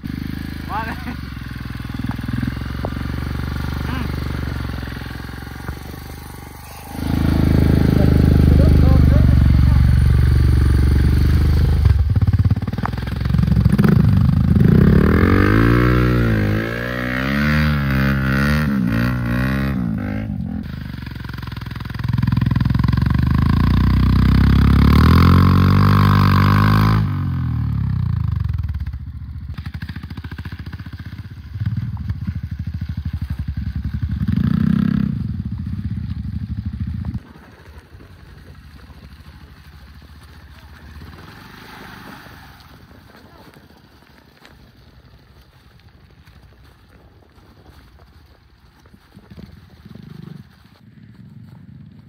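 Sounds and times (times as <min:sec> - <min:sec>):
motorcycle engine revving: 0:00.0 - 0:43.5, 0:49.0 - 0:52.0.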